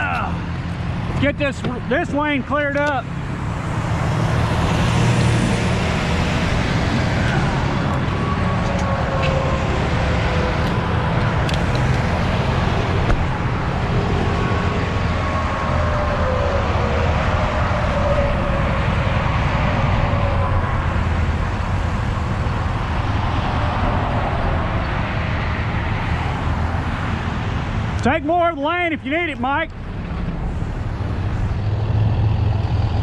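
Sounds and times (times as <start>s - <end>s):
highway traffic passing: 0.0s - 33.0s.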